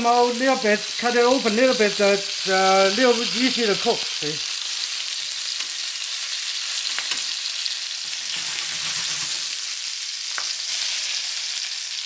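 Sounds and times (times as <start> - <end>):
chicken frying in hot oil: 0.0 - 12.0.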